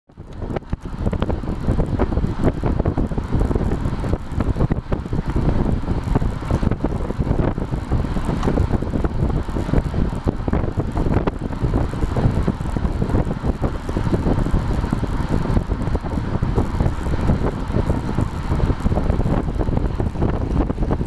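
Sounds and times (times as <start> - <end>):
road and tyre noise: 0.1 - 21.0
wind buffeting microphone: 0.1 - 21.0.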